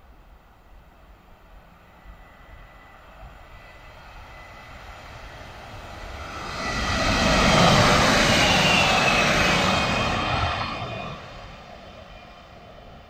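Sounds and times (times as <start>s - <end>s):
high train whine: 0.0s - 13.0s.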